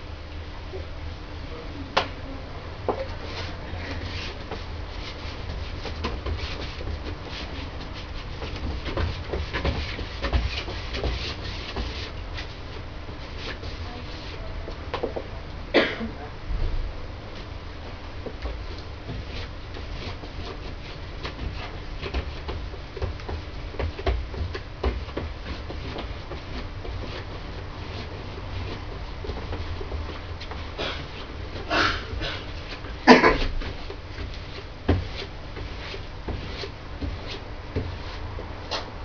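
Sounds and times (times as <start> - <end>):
low room hum: 0.0 - 39.0
scrubbing strokes against wall: 2.9 - 14.5, 18.2 - 39.0.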